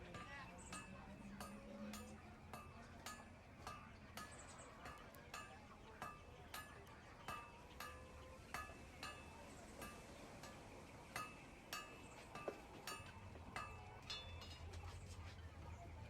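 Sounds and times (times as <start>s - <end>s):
light metallic strikes ringing: 0.0s - 15.2s.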